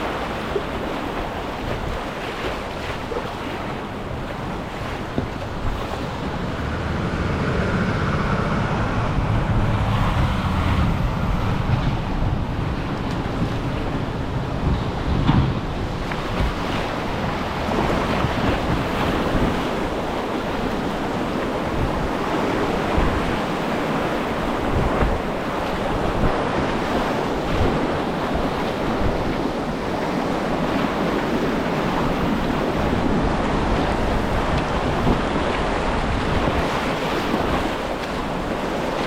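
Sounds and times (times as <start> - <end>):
whitewater rapids rushing: 0.0 - 39.0
wind buffeting microphone: 0.0 - 39.0.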